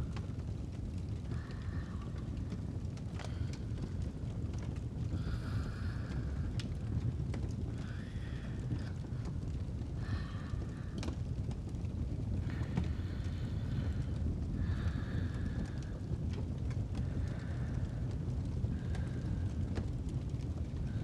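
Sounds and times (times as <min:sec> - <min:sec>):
fire crackling: 0:00.0 - 0:21.0
slow rhythmic breathing: 0:00.0 - 0:21.0.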